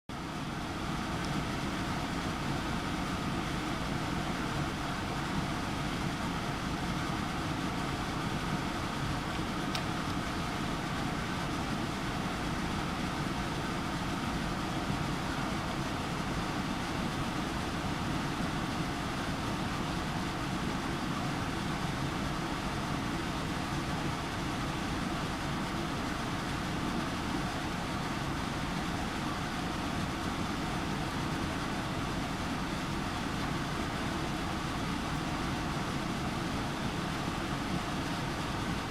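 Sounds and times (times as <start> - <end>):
electric fan running: 0.2 - 38.9.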